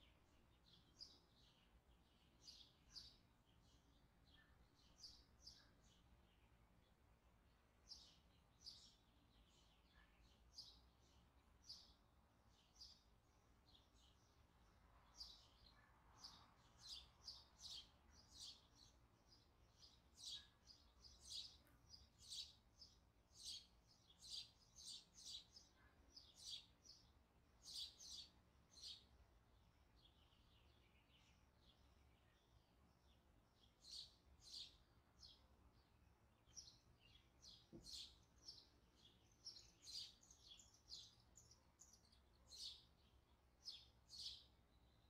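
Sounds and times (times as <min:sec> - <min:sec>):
small bird chirping: 0:00.0 - 0:07.0, 0:07.8 - 0:45.0.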